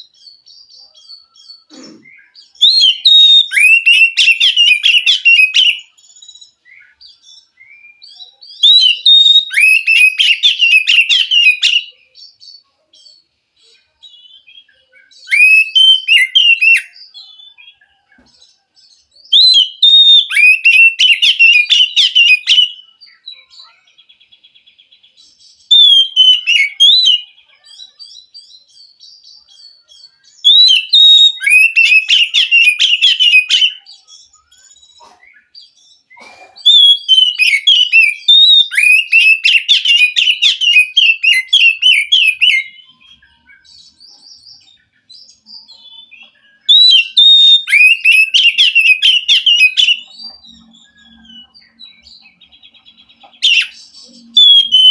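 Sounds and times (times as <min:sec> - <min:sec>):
bird whistling and chattering: 0:01.4 - 0:07.0, 0:07.6 - 0:11.9, 0:14.1 - 0:17.7, 0:19.2 - 0:23.7, 0:25.7 - 0:27.9, 0:30.3 - 0:54.9.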